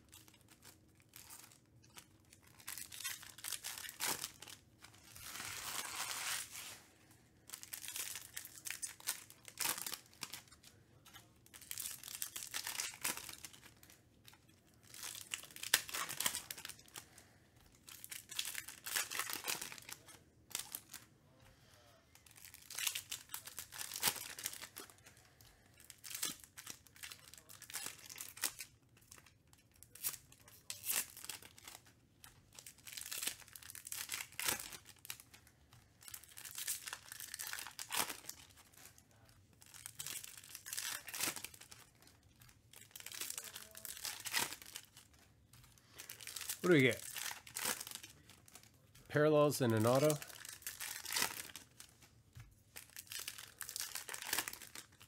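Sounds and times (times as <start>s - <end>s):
packaging tearing and crinkling: 0.1s - 21.1s, 22.2s - 48.9s, 49.6s - 52.1s, 52.8s - 55.0s.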